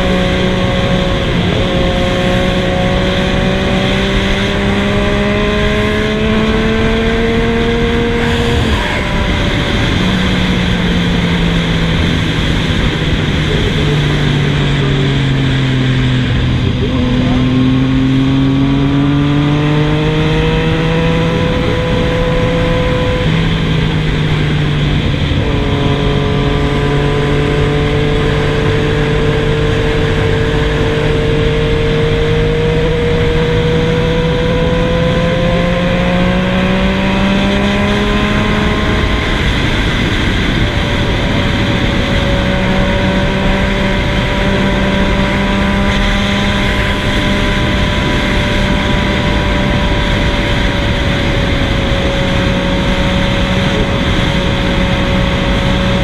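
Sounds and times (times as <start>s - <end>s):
motorcycle engine revving: 0.0s - 56.0s
steady rush of noise: 0.0s - 56.0s.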